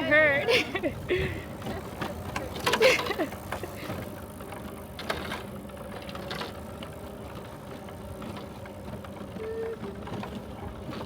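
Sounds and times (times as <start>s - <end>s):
bicycle tyres rumbling: 0.0s - 11.0s
bike clicks and rattles: 0.0s - 11.0s.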